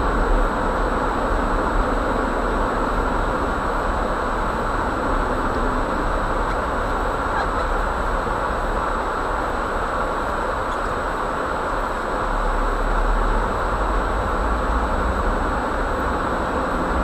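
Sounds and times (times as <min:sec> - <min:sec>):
engine and tyre rumble: 0:00.0 - 0:17.0.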